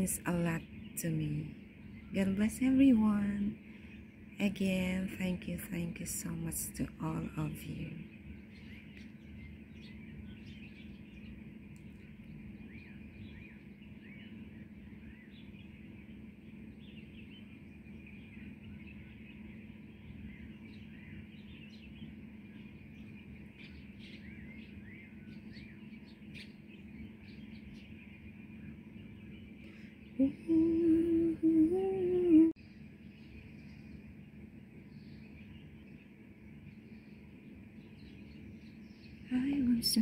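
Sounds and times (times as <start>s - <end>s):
low background hum: 0.0s - 40.0s
small birds chirping: 0.0s - 40.0s.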